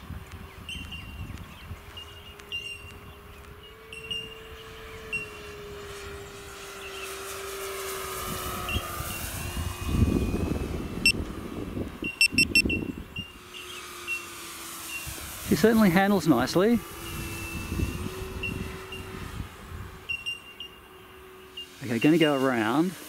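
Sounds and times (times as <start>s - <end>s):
model plane electric motor whine: 0.0s - 23.0s.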